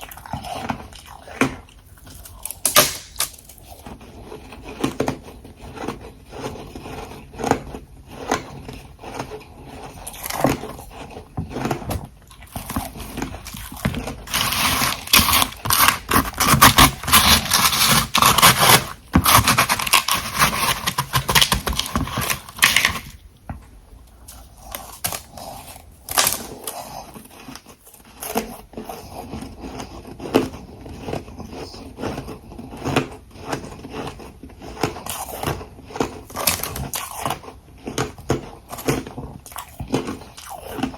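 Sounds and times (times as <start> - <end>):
person chewing ice crunching: 0.0 - 23.2, 24.2 - 40.9.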